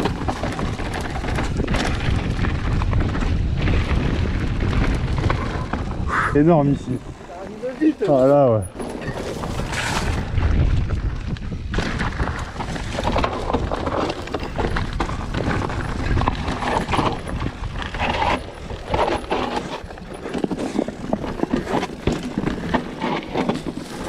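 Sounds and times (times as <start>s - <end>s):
wind buffeting microphone: 0.0s - 19.8s
bike rattling over knocks: 0.0s - 24.0s
bike tyres on loose stones: 0.0s - 24.0s.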